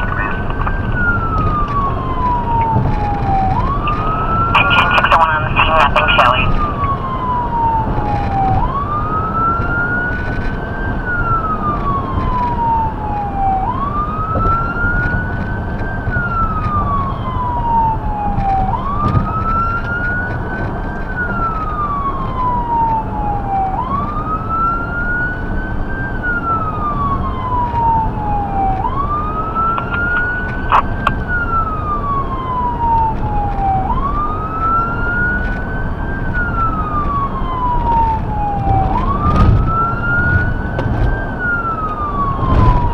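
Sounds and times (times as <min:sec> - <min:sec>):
electronic wail siren: 0:00.0 - 0:42.9
road and engine noise: 0:00.0 - 0:42.9.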